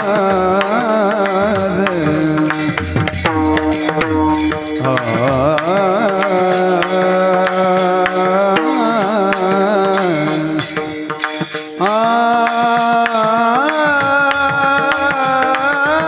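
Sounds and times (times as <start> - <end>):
man singing long ornamented notes: 0.0 - 16.0.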